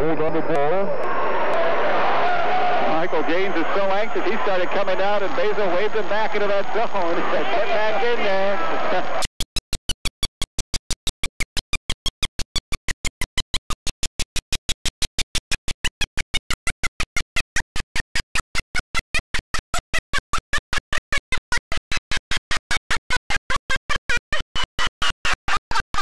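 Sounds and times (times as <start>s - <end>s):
fast stutter of loud clicks: 3.0s - 8.2s, 9.0s - 26.0s.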